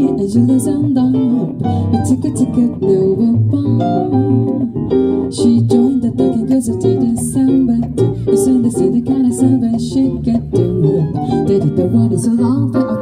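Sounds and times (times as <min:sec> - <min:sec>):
jazz combo playing samba: 0:00.0 - 0:13.0
woman singing: 0:00.0 - 0:13.0.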